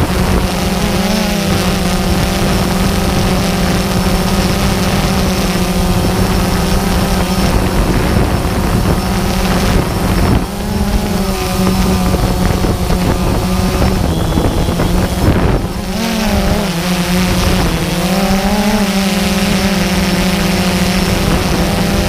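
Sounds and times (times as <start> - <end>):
drone motors humming: 0.0 - 22.0.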